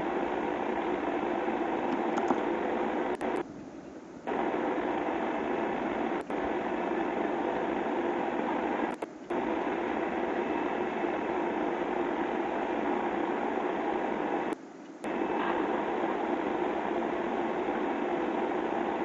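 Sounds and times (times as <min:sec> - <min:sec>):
steady hissing noise: 0:00.0 - 0:19.0.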